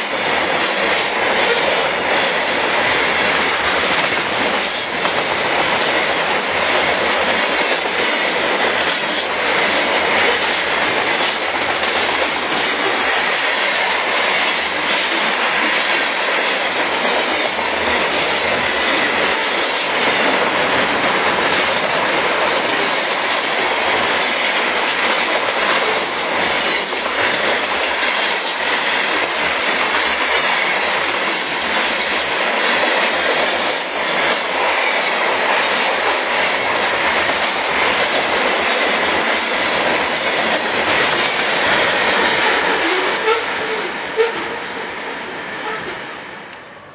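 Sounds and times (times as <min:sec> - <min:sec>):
freight train wheels on rail: 0:00.0 - 0:46.9.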